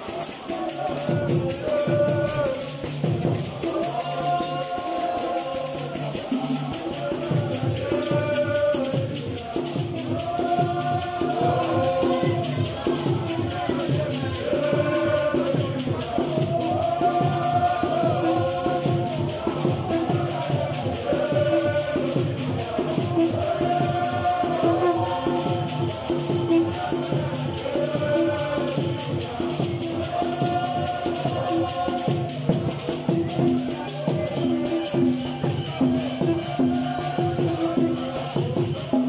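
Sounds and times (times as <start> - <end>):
congregation singing a hymn: 0.0 - 39.0
shaken rattles or tambourine: 0.0 - 39.0.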